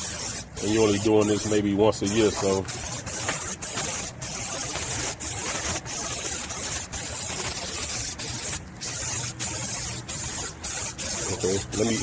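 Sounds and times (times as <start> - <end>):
aerosol can spraying bursts: 0.0 - 12.0.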